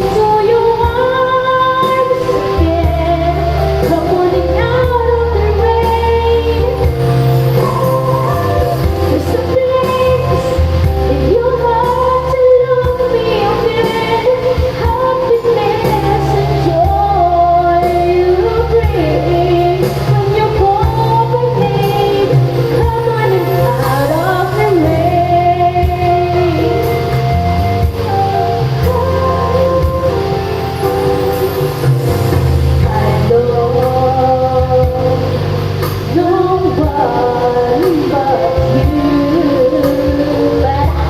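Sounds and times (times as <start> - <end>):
backing instruments: 0.0 - 41.0
steady bass line: 0.0 - 41.0
woman singing: 0.0 - 41.0.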